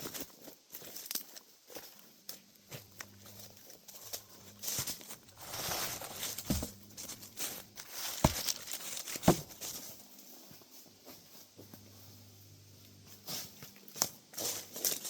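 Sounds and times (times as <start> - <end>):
crunching footsteps: 0.0 - 12.2, 12.8 - 15.0.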